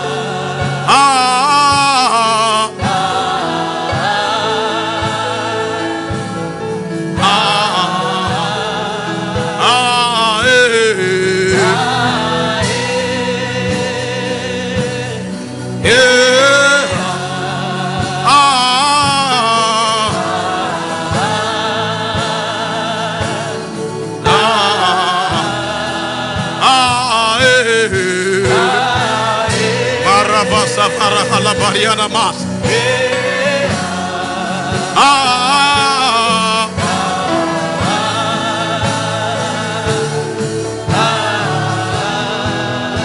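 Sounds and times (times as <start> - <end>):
gospel singing: 0.0 - 43.0.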